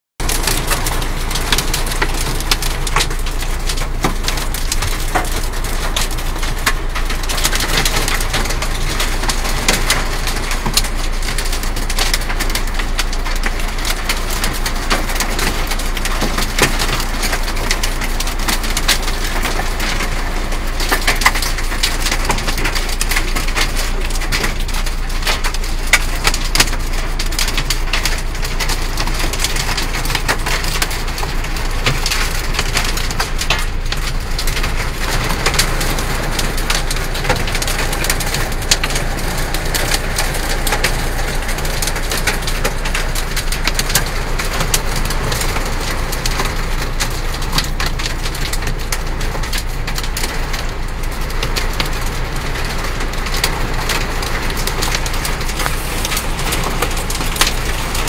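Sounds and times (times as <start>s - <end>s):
heavy rain on vehicle roof: 0.2s - 58.0s.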